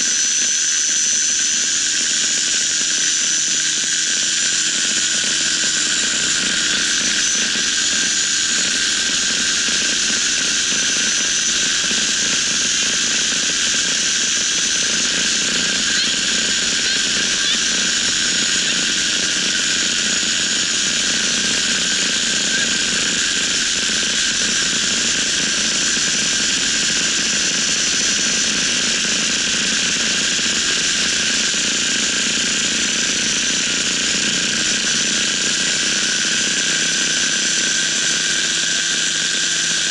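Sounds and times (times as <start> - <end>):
paramotor engine and propeller drone: 0.0 - 39.9.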